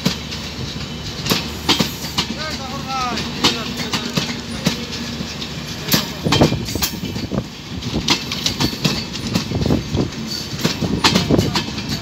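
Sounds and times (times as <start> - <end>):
train wheels clattering over track: 0.0 - 12.0.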